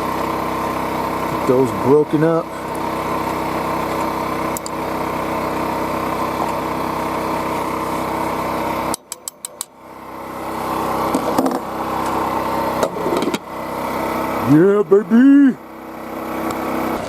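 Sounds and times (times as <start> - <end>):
portable generator running: 0.0 - 17.0.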